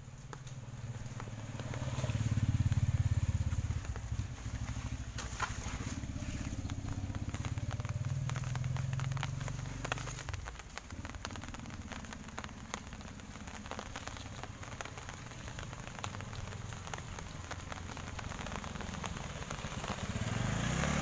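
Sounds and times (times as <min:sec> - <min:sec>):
rain pattering and dripping: 0:00.0 - 0:21.0.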